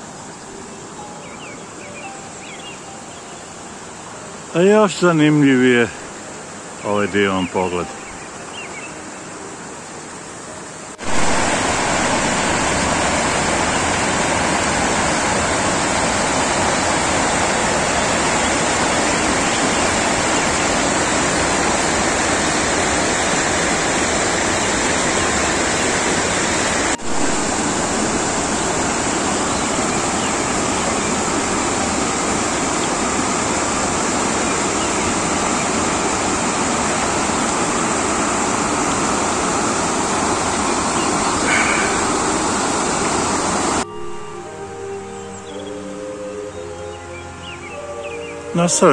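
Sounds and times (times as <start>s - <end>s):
stream rushing: 0.0s - 48.9s.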